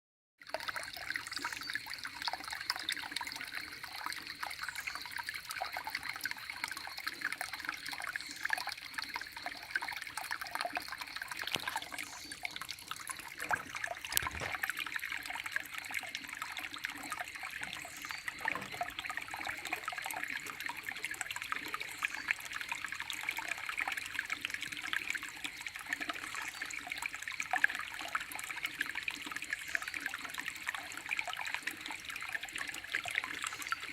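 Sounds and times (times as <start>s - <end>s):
stream babbling over stones: 0.4s - 33.9s.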